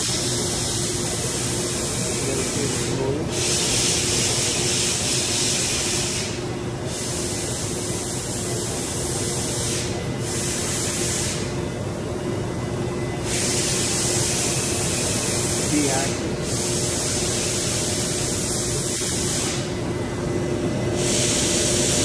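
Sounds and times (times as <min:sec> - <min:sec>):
cnc router air hiss: 0:00.0 - 0:22.0
steady machine hum: 0:00.0 - 0:22.0.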